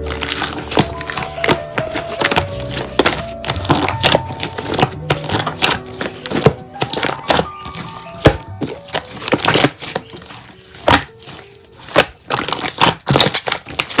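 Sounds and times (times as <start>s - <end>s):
slime clicking and crackling: 0.0s - 14.0s
soft background music: 0.0s - 14.0s.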